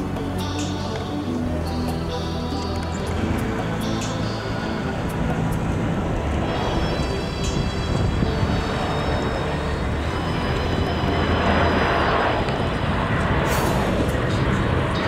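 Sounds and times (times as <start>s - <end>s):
faint high jet whine: 0.0s - 15.0s
jet rumble: 0.0s - 15.0s
rushing noise: 0.0s - 15.0s.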